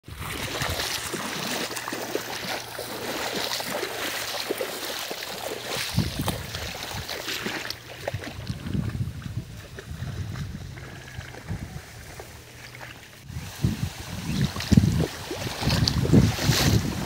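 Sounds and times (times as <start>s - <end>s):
shallow water splashing: 0.0s - 17.0s.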